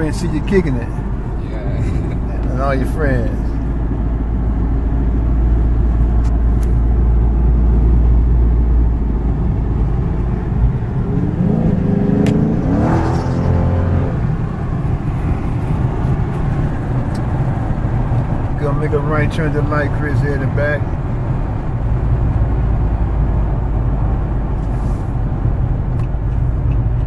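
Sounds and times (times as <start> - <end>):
car engine droning: 0.0 - 27.0.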